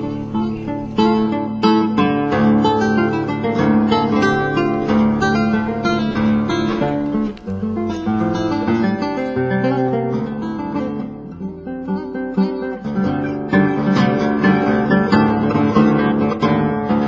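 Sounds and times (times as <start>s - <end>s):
acoustic guitar plucking and strumming: 0.0s - 17.0s.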